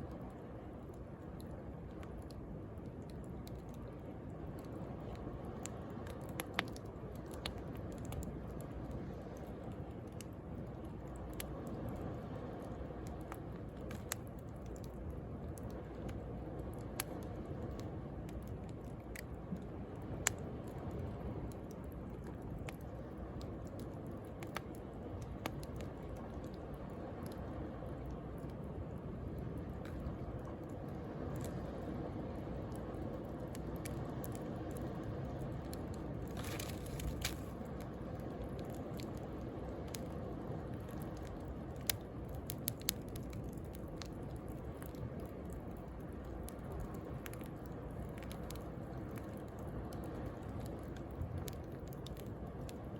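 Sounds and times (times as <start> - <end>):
wood bonfire crackling: 0.0 - 52.9
fire popping: 1.0 - 27.4, 32.4 - 52.9.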